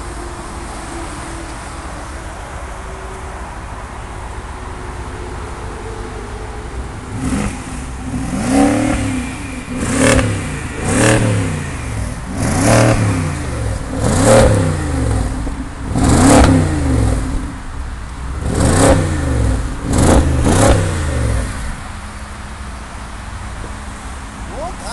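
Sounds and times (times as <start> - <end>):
car engine idling and revving: 0.0 - 24.9.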